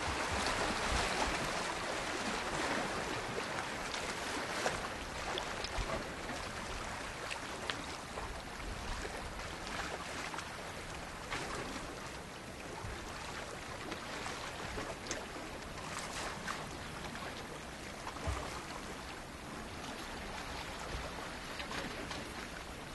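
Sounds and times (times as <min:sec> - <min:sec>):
lake water lapping: 0:00.0 - 0:22.9.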